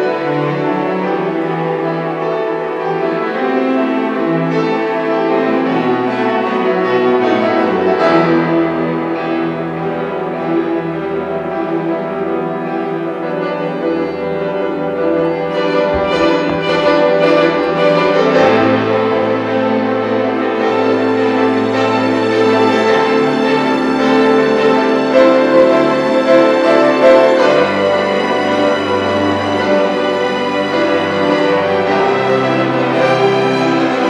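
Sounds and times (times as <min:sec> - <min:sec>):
piano with string orchestra: 0:00.0 - 0:34.0.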